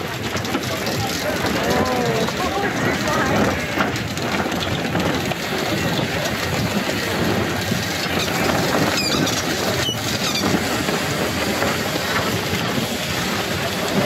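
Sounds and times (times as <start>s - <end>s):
rushing wind: 0.0s - 14.0s.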